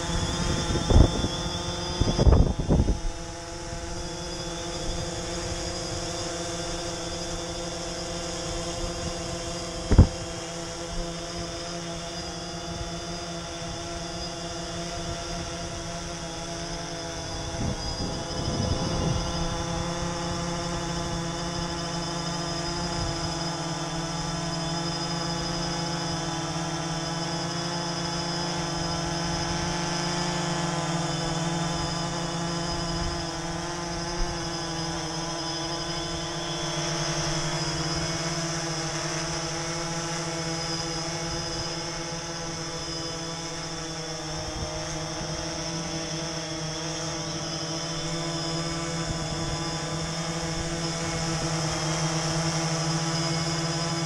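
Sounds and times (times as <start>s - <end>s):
drone rotors whining: 0.0s - 54.0s.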